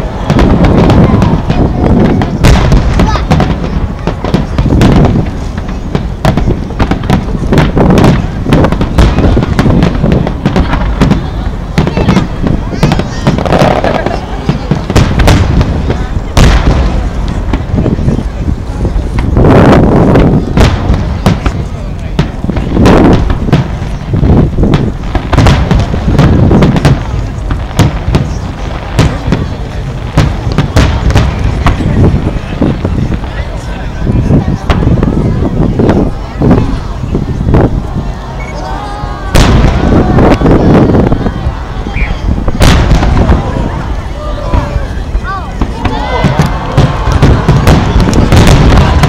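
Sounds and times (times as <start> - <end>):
fireworks bangs and crackles: 0.0 - 49.0.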